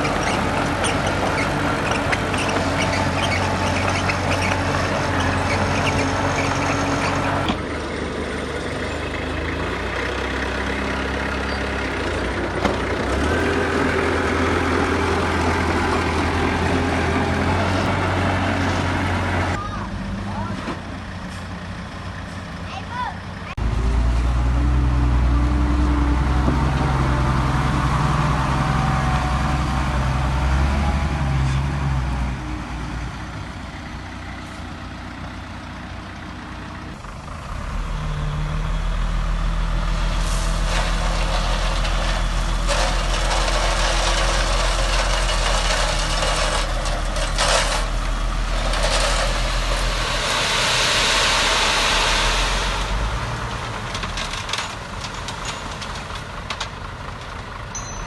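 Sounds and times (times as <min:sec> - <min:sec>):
heavy diesel engine revving: 0:00.0 - 0:20.5, 0:23.5 - 0:33.4, 0:36.5 - 0:55.0.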